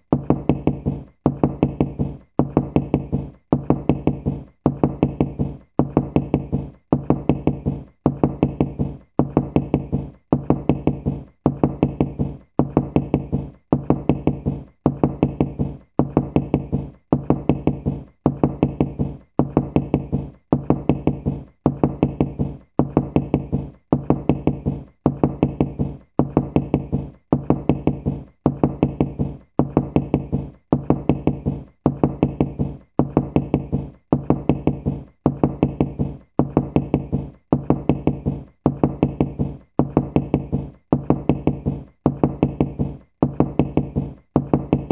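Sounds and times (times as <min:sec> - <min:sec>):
quick runs of knocking: 0:00.0 - 0:44.9.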